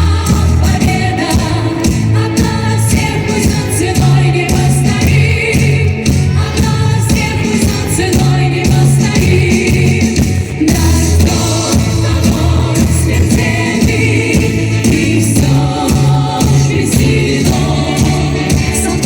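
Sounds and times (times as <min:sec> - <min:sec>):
instrumental accompaniment: 0:00.0 - 0:19.0
vocal ensemble singing in harmony: 0:00.0 - 0:19.0.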